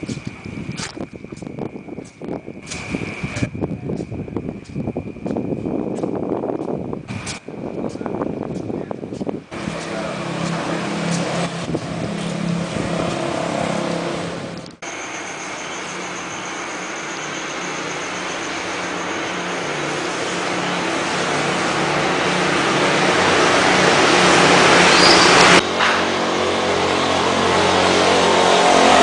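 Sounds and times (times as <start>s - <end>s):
vehicle engine humming: 0.0s - 29.0s
rushing noise: 5.1s - 29.0s.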